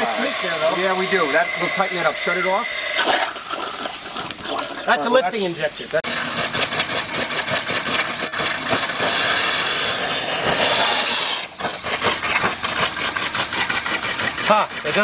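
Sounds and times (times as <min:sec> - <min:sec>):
steam hissing and crackling: 0:00.0 - 0:15.0.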